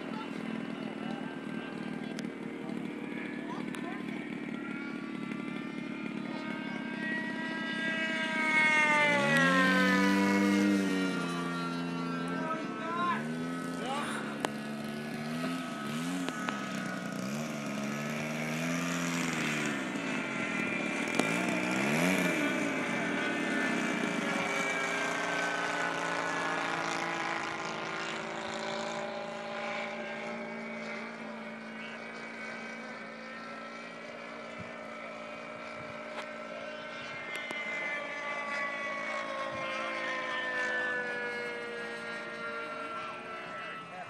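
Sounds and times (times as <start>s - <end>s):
model airplane engine running: 0.0s - 44.0s.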